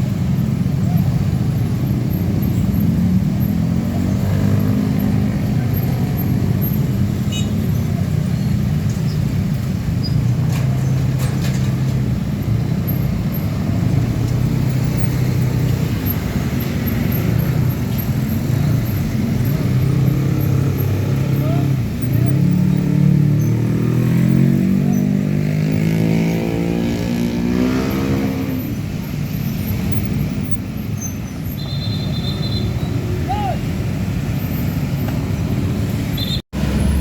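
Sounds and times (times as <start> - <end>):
traffic: 0.0 - 37.0.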